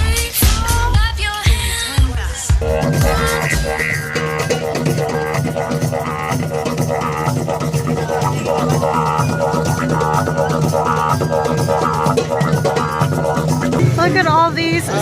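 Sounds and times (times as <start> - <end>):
music with deep drone: 2.6 - 15.0.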